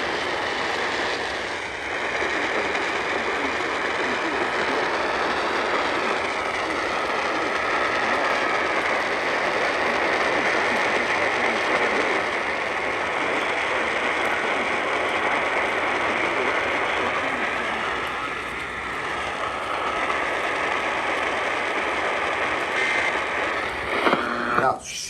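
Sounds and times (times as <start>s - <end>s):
radio static crackling hiss: 0.0s - 25.0s.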